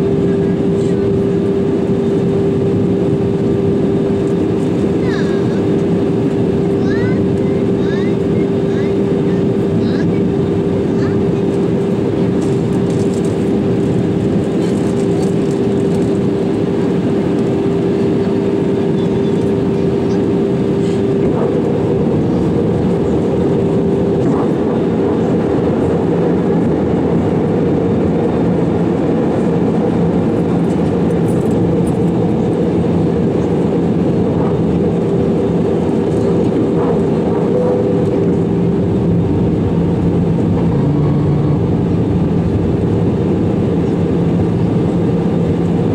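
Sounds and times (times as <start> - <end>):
airplane cabin engine and airflow rush: 0.0 - 45.9
steady cabin hum: 0.0 - 45.9.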